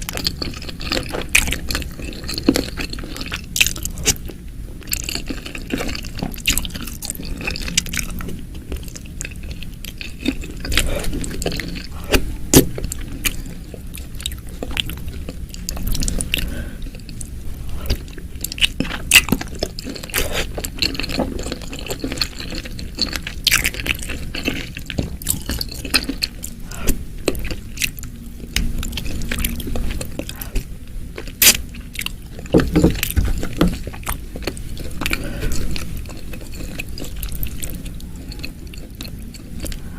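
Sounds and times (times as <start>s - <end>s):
wet chewing and smacking: 0.0s - 39.9s.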